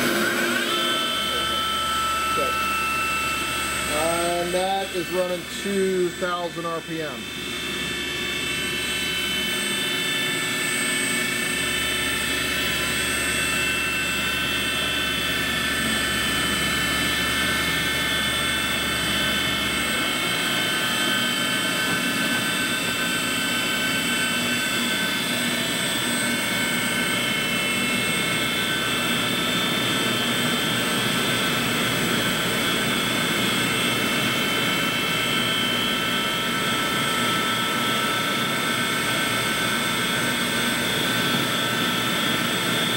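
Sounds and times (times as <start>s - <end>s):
grinding machine whine: 0.0s - 42.9s.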